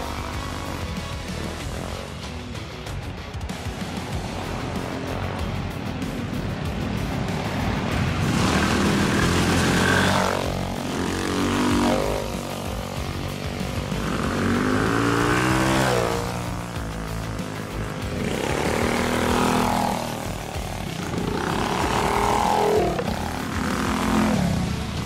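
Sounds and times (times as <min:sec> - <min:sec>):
minibike engines revving past: 0:00.0 - 0:25.0.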